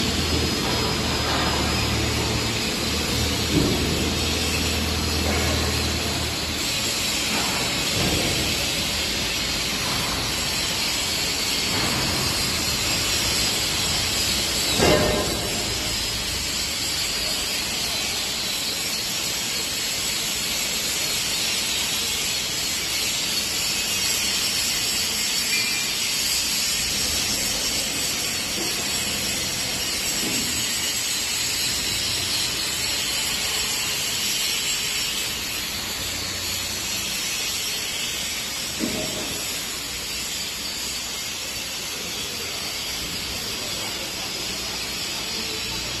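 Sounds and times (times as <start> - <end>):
welding arc hissing and crackling: 0.0 - 46.0.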